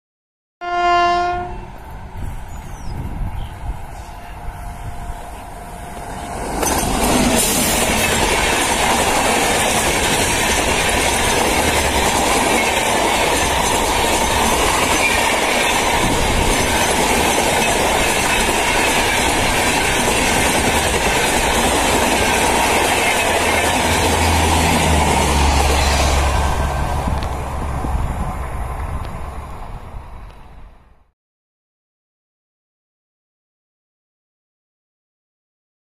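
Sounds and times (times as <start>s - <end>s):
train wheels on rails: 1.7s - 30.9s.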